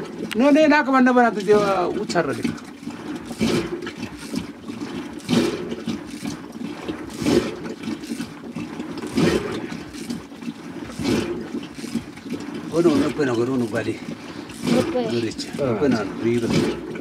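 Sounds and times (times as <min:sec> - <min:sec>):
liquid sloshing in butter churn: 0:00.0 - 0:17.0.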